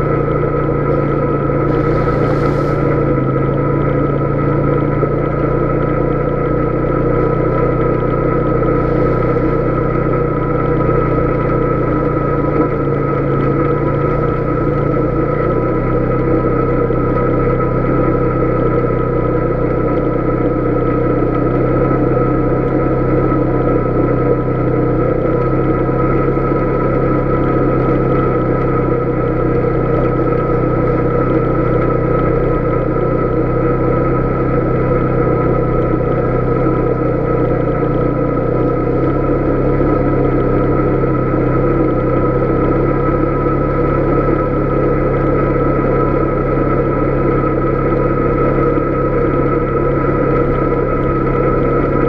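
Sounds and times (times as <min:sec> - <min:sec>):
atv engine droning: 0:00.0 - 0:52.0.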